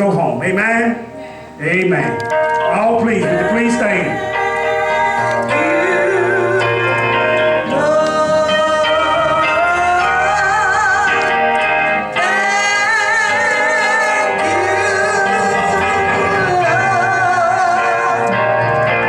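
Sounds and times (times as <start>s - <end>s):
singing with instrumental accompaniment: 1.0s - 19.0s.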